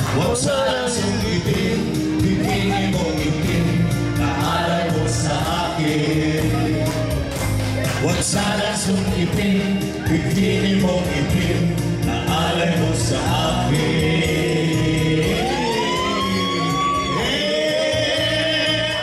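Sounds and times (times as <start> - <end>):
backing music with bass notes: 0.0 - 19.0
men singing into microphones: 0.0 - 19.0.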